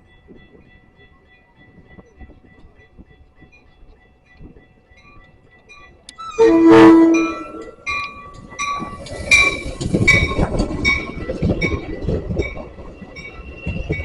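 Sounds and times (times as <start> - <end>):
train wheels clattering on rails: 0.0 - 14.0
bell ringing: 0.1 - 11.9.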